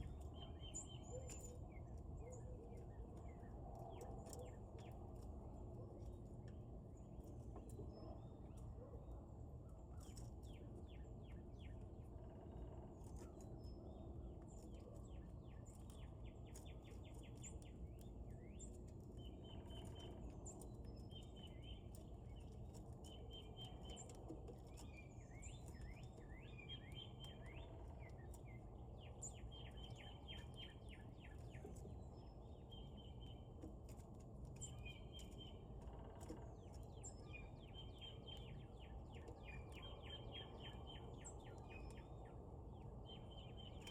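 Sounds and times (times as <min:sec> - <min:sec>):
birds chirping and trilling: 0:00.0 - 0:05.3, 0:06.0 - 0:43.9
low outdoor rumble: 0:00.0 - 0:43.9.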